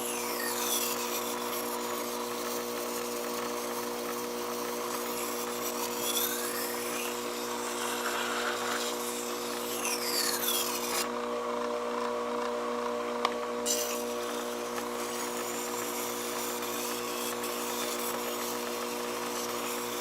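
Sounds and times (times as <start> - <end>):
grinder hiss: 0.0 - 11.1, 13.6 - 20.0
grinder motor humming: 0.0 - 20.0.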